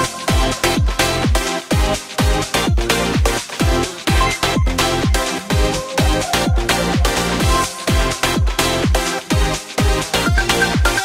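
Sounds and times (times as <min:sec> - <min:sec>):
electronic dance music: 0:00.0 - 0:11.0
kick drum: 0:00.0 - 0:11.0
synth chords: 0:00.1 - 0:11.0.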